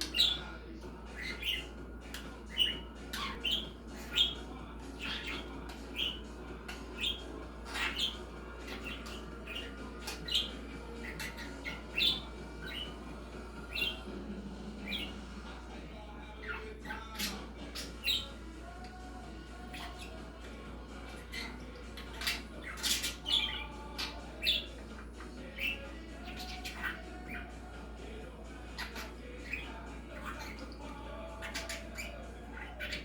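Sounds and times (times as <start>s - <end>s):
budgerigar chattering: 0.0s - 15.5s, 16.3s - 33.0s.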